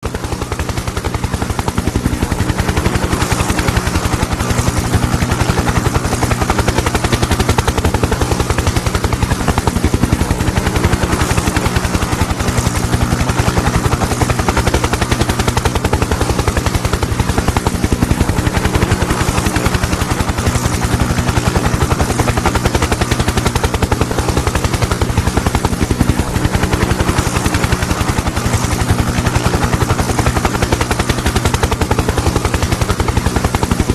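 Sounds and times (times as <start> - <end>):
helicopter rotor beating: 0.0 - 33.9.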